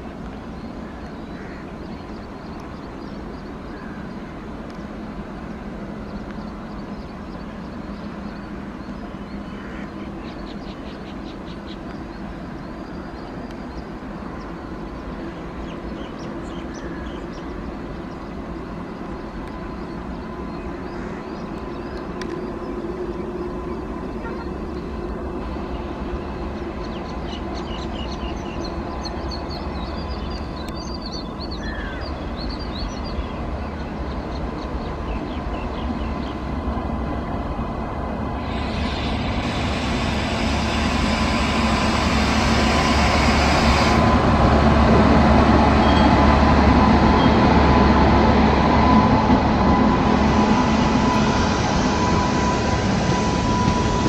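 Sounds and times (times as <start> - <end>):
electric locomotive rumble and hum: 0.0 - 54.0.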